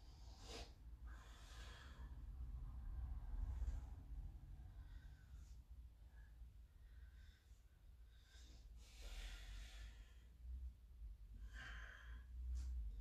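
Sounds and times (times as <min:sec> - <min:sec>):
man breathing: 0:00.0 - 0:13.0.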